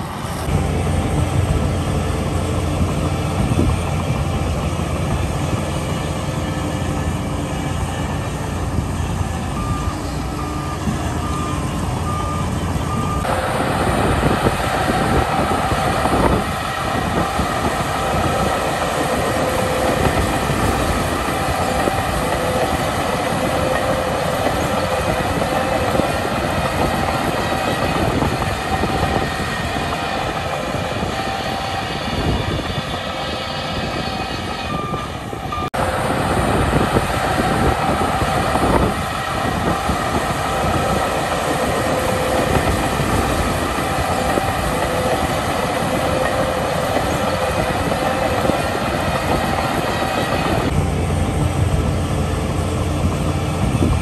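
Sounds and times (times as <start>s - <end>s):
bulldozer engine rumble: 0.0s - 54.0s
bulldozer tracks clattering: 0.0s - 54.0s.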